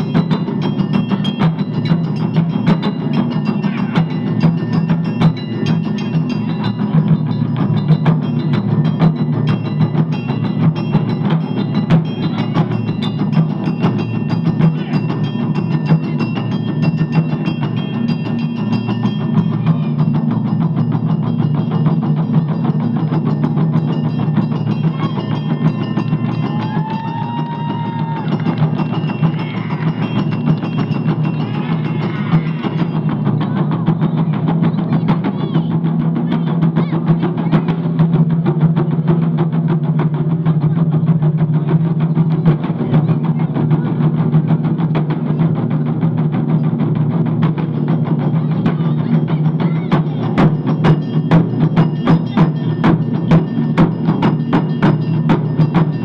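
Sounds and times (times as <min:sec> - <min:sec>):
barrel drums ensemble drumming: 0:00.0 - 0:56.0.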